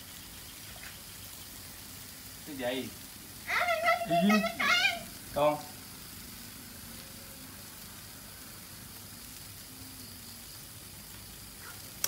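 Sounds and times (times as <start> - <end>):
light rain hiss: 0.0 - 12.0.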